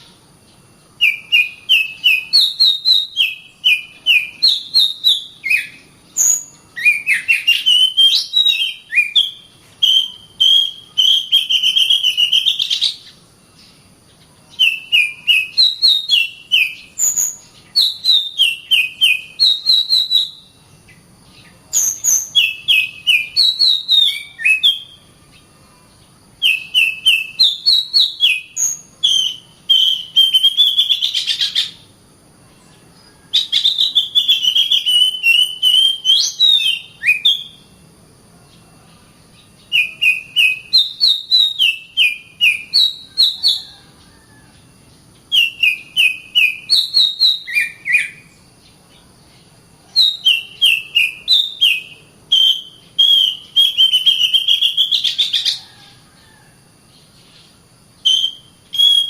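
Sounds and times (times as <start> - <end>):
bird whistling song: 0.0 - 25.5, 26.3 - 31.9, 32.6 - 37.7, 39.4 - 44.5, 45.2 - 48.8, 49.9 - 55.9, 57.2 - 59.0.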